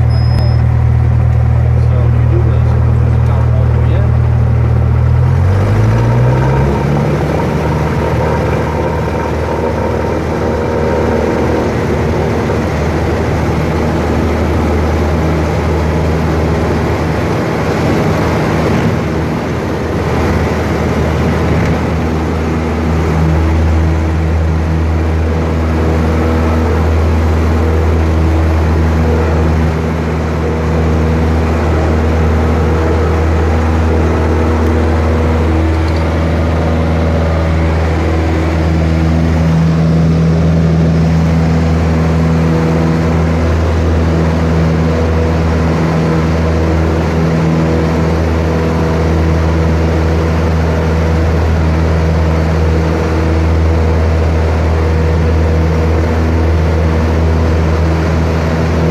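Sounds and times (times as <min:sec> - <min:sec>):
light aircraft engine drone: 0:00.0 - 0:58.9.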